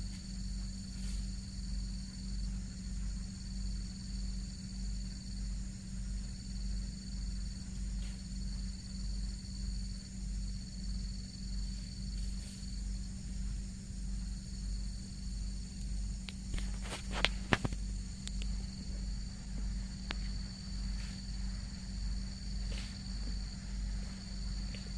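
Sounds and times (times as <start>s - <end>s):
low pulsing throb: 0.0s - 24.9s
high insect chirring: 0.1s - 24.9s.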